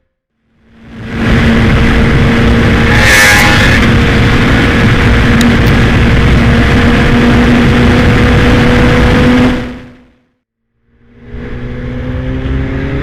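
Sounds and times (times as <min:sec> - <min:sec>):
motorcycle engine at high revs: 0:00.5 - 0:10.2, 0:11.0 - 0:13.0.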